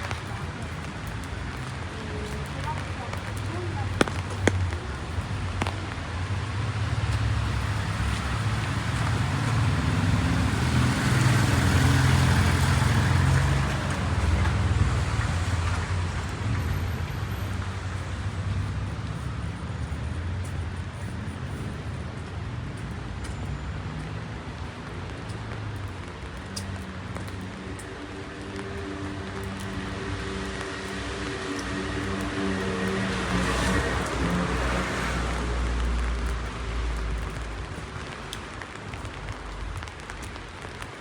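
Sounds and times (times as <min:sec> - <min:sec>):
car passing on wet street: 0:00.0 - 0:41.0.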